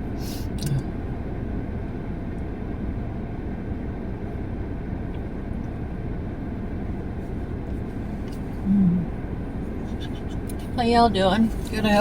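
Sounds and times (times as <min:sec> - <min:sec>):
heater fan running: 0:00.0 - 0:12.0
vehicle engine idling: 0:00.0 - 0:12.0.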